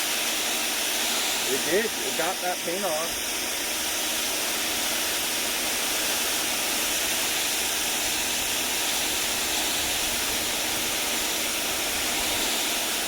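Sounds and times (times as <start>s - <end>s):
pressure washer spraying concrete: 0.0s - 13.0s
pump running: 0.0s - 13.0s.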